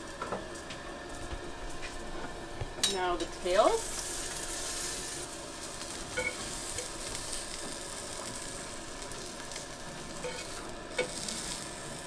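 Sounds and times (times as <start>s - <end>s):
crayfish sizzling in a frying pan: 0.0s - 12.0s.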